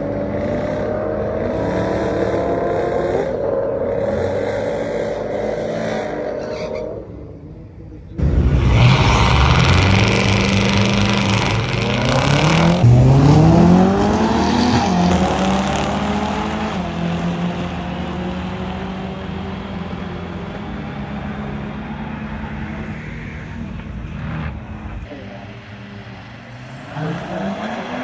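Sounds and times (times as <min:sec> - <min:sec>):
drag racing car accelerating: 0:00.0 - 0:28.0.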